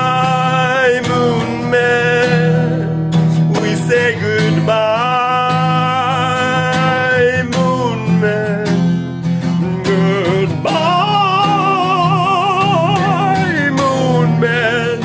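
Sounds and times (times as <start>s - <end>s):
man singing with vibrato: 0.0s - 15.0s
strummed acoustic guitar: 0.0s - 15.0s.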